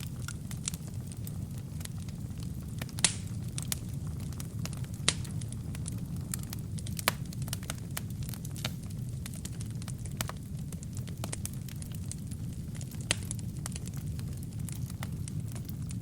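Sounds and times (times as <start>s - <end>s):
fire popping: 0.0s - 16.0s
kindling crackling: 0.0s - 16.0s
low rumble of flame: 0.0s - 16.0s.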